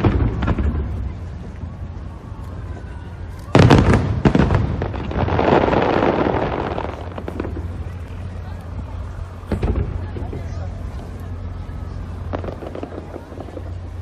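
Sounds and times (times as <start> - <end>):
fireworks bursting with loud bangs: 0.0 - 2.6, 3.3 - 11.2, 12.0 - 14.0
fireworks crackling: 0.0 - 14.0.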